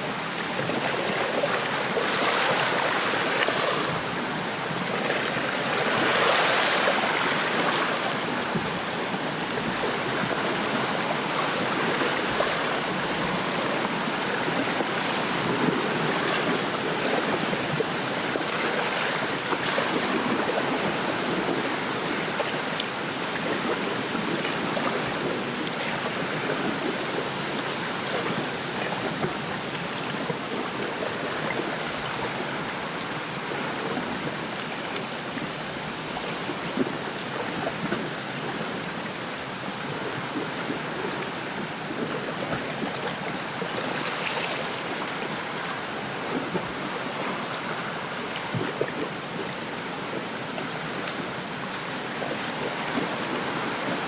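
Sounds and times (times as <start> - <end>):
waves lapping at shore: 0.0 - 54.0.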